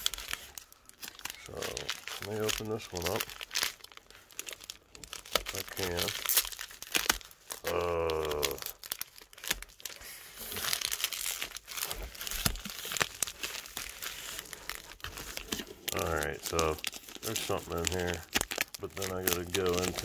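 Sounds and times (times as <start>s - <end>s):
plastic envelope tearing and crinkling: 0.0s - 20.0s.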